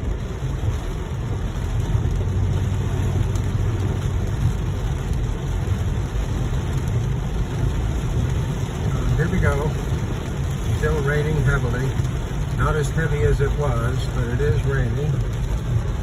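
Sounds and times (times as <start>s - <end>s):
car engine and road rumble: 0.0s - 16.0s
rain hiss: 0.0s - 16.0s.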